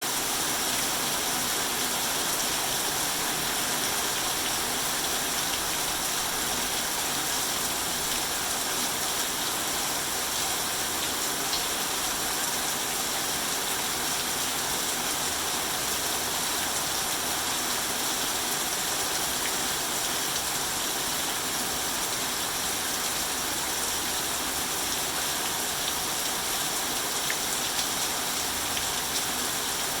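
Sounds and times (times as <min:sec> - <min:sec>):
steady rain hiss: 0:00.1 - 0:30.0.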